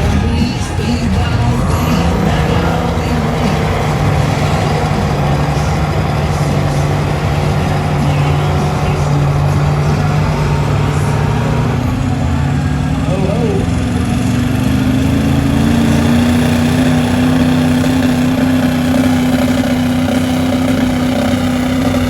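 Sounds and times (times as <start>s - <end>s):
diesel truck engines revving: 0.0s - 22.0s.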